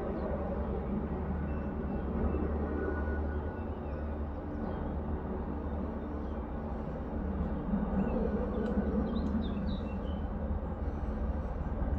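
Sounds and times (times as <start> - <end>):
distant helicopter rumble: 0.0 - 11.9.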